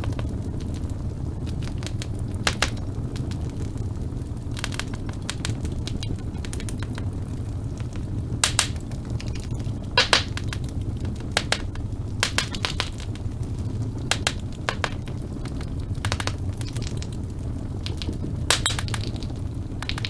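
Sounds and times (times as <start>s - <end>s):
low rumble of burning: 0.0s - 20.0s
wood fire crackling: 0.0s - 20.0s.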